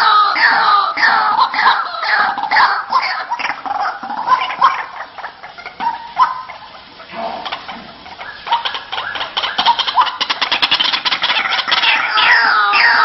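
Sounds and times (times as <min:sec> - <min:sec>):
waterhen calls: 0:00.0 - 0:13.0.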